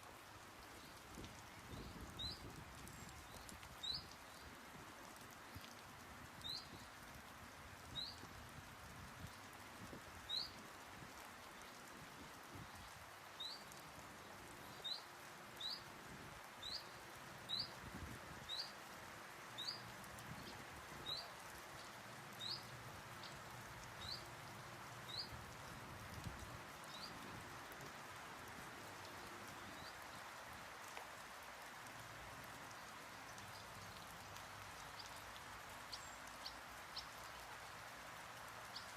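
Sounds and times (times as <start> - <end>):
faint outdoor hiss: 0.0 - 38.9.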